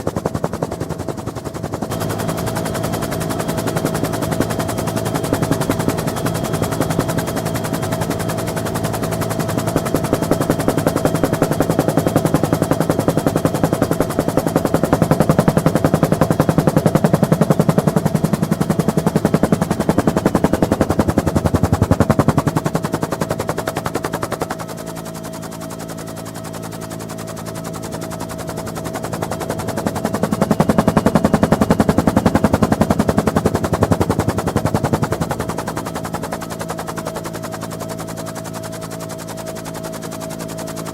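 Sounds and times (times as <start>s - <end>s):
helicopter rotor blade chop: 0.0s - 40.9s.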